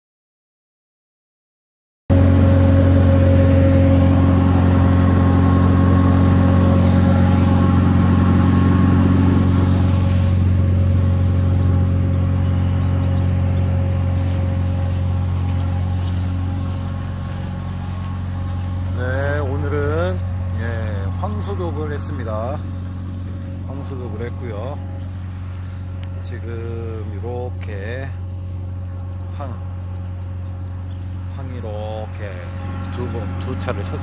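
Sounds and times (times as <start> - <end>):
engine humming steadily: 2.1 - 34.0.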